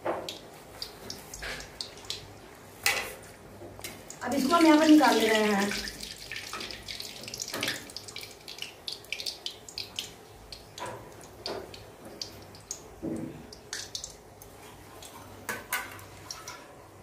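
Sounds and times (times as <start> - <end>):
hot oil crackling and sizzling: 0.2 - 16.6.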